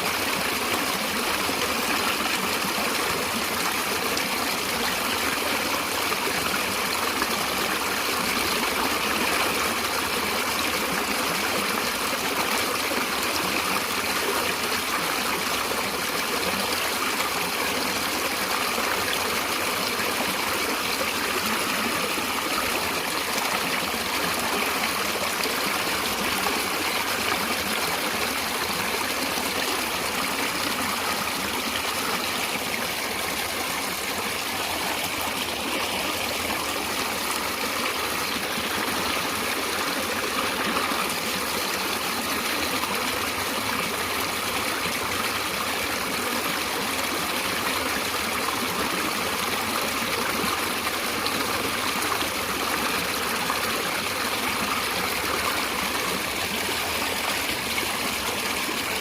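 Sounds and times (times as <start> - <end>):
stream of water running: 0.0 - 59.0.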